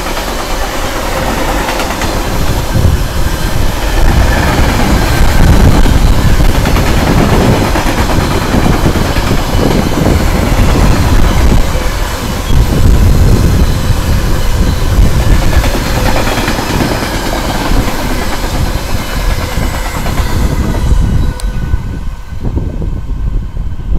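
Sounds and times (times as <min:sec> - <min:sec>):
steel wheels clattering on rails: 0:00.0 - 0:21.6
train wagons rolling past: 0:00.0 - 0:22.4.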